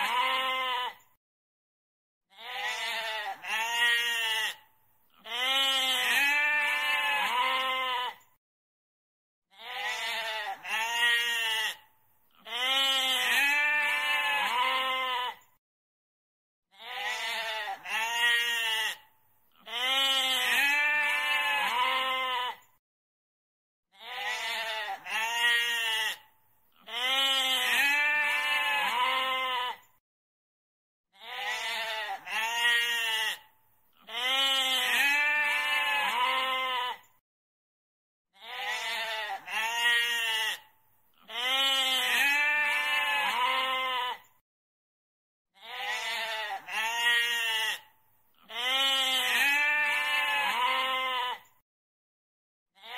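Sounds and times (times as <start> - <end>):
goat bleating: 0.0 - 1.0, 2.3 - 8.3, 9.5 - 15.5, 16.7 - 22.7, 24.0 - 29.9, 31.2 - 37.1, 38.4 - 44.3, 45.6 - 51.6.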